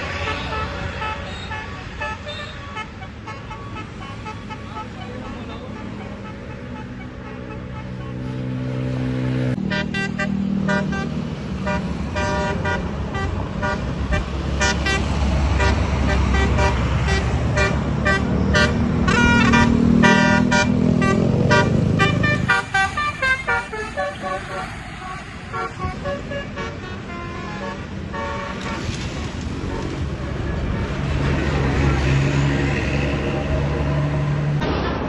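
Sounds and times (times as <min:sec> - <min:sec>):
musical bus air horn: 0:00.0 - 0:08.6, 0:09.6 - 0:29.0, 0:29.6 - 0:31.0
bus engine rumble: 0:00.0 - 0:35.0.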